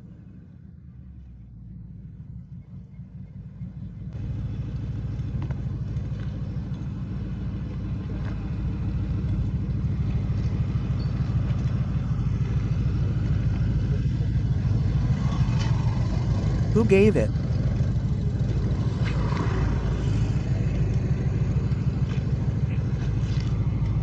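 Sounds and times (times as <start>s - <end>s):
road noise: 0.0s - 24.0s
car engine accelerating: 1.7s - 16.7s, 17.3s - 24.0s.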